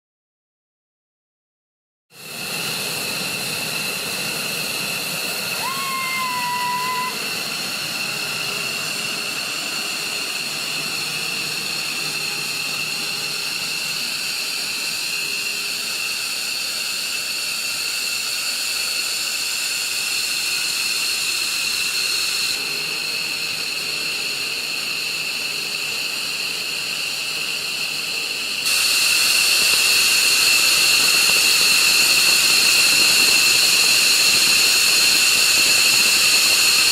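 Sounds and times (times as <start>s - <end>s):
jet engines whining: 2.2s - 36.9s.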